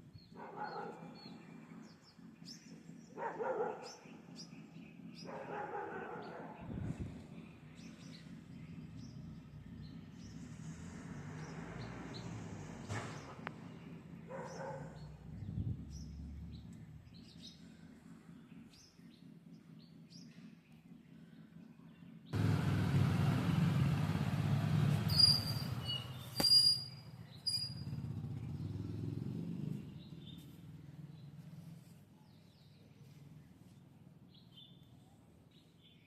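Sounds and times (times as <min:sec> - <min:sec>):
small birds chirping: 0:00.0 - 0:24.1, 0:24.8 - 0:36.0.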